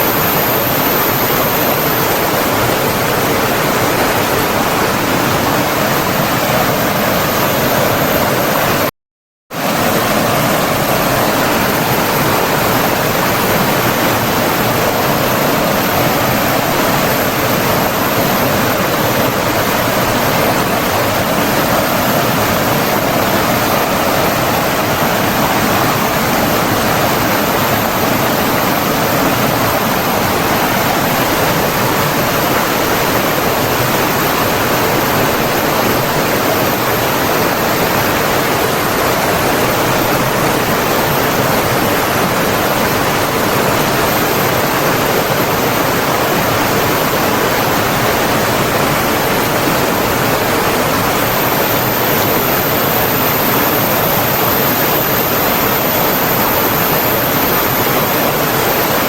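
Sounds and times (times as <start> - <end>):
water rushing: 0.0 - 8.9, 9.6 - 59.0.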